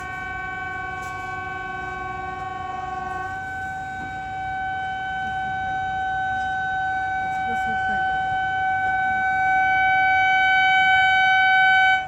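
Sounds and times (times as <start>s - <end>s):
locomotive air horn chord: 0.0s - 12.0s.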